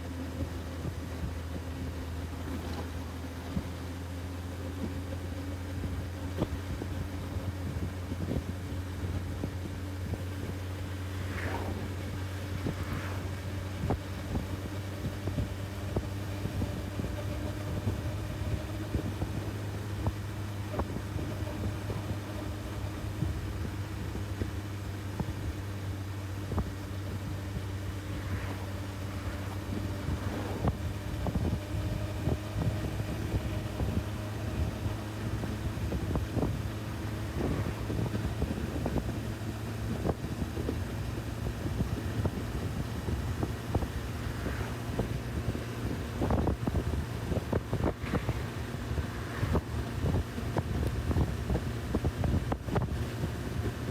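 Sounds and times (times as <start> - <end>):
motorcycle engine droning: 0.0 - 53.9
wind noise: 0.0 - 53.9.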